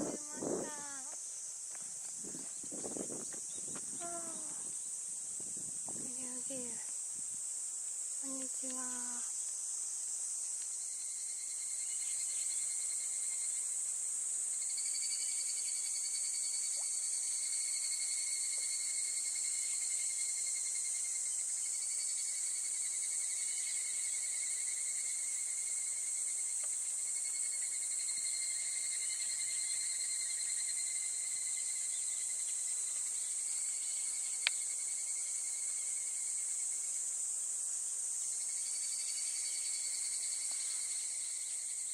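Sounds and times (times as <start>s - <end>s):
insect trill: 0.0s - 41.9s
insects buzzing: 0.0s - 41.9s.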